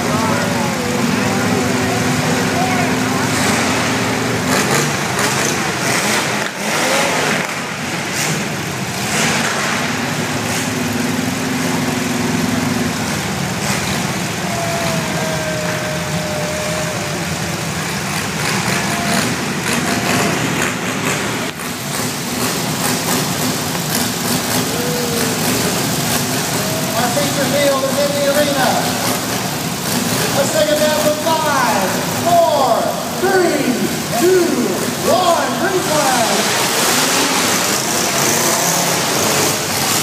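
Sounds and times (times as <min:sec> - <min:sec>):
car engines idling and revving: 0:00.0 - 0:40.0.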